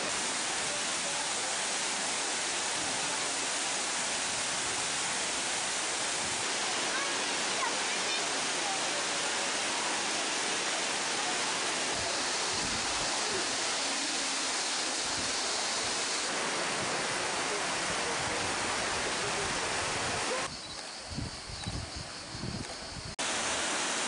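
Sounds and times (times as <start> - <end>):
waterfall rushing: 0.0 - 20.5, 23.2 - 24.0.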